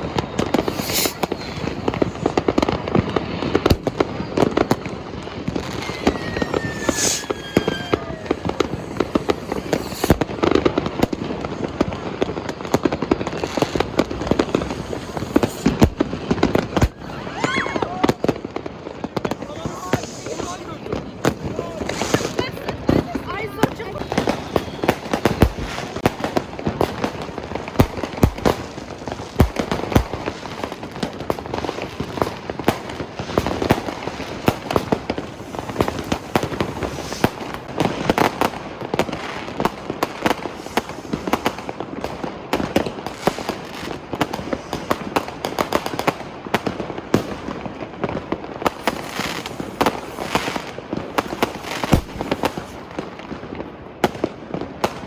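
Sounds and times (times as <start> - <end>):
sharp firecracker bangs: 0.0 - 3.0, 3.6 - 30.4, 32.7 - 46.0, 46.6 - 53.1
fireworks crackling: 0.0 - 55.0.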